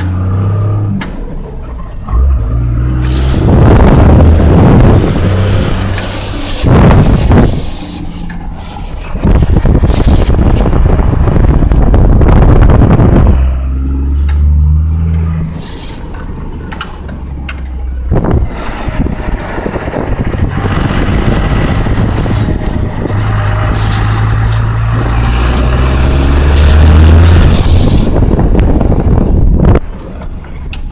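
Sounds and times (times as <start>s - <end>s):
motor vehicle engine rumble: 0.0s - 30.9s.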